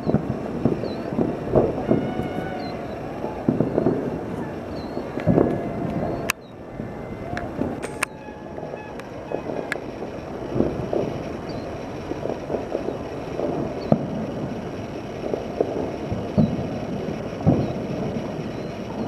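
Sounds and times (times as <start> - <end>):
sharp firework bang: 0.0 - 6.5, 7.4 - 19.0
distant fireworks booms and pops: 0.0 - 19.0.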